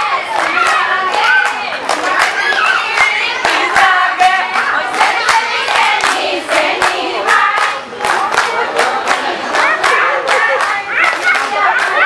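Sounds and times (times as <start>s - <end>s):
group of people singing: 0.0s - 12.0s
hands clapping in rhythm: 0.0s - 12.0s.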